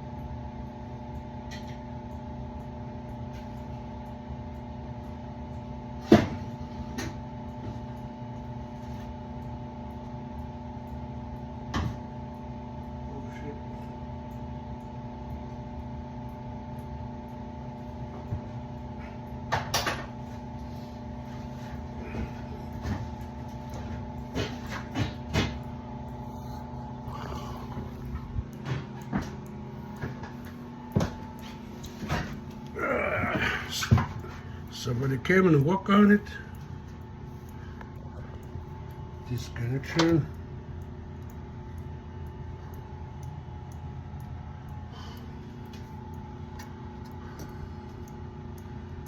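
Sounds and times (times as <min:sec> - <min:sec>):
steady mechanical hum: 0:00.0 - 0:49.0.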